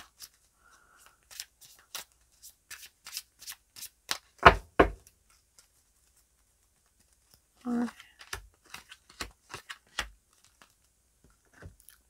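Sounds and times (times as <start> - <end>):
cards being shuffled: 0.0 - 4.4, 5.0 - 11.8.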